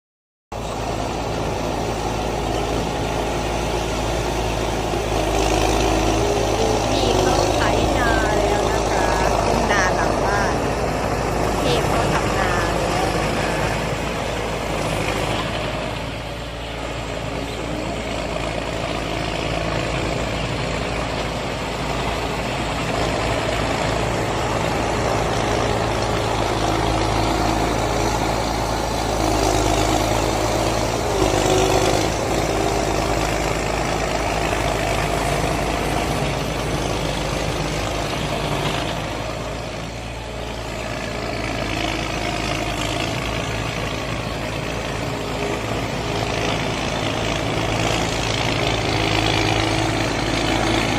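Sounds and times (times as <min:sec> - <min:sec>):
tractor engine running: 0:00.5 - 0:50.9.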